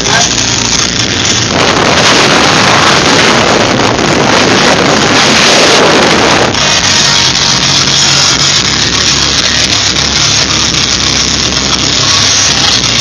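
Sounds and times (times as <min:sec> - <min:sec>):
car engine: 0:00.0 - 0:13.0
road noise: 0:00.0 - 0:13.0
wind rushing on microphone: 0:00.0 - 0:13.0.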